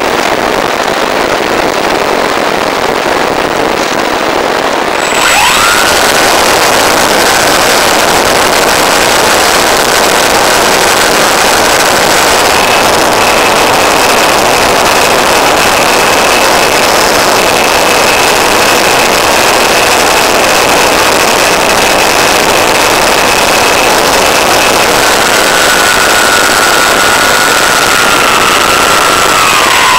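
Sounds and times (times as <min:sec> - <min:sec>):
electric motor whine: 0:04.9 - 0:29.9.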